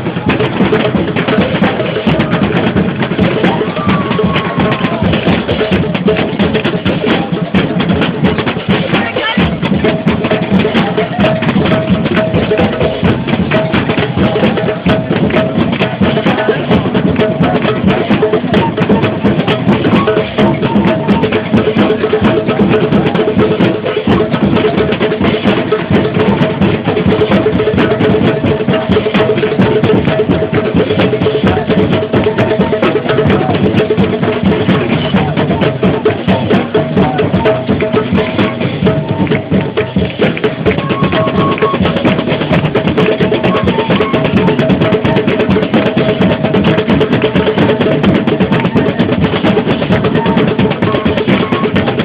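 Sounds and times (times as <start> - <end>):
crowd drumming: 0.0 - 52.0.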